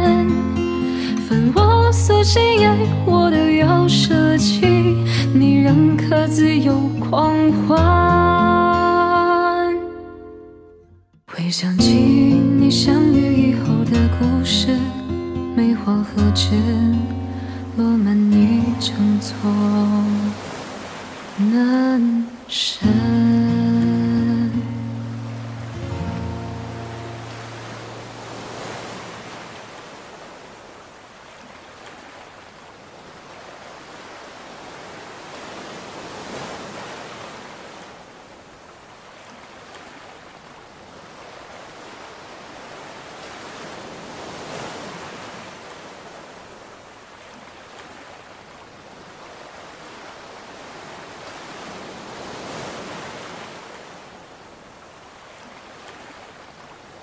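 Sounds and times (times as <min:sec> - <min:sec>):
sea waves washing in: 0:00.0 - 0:10.4, 0:11.3 - 0:57.0.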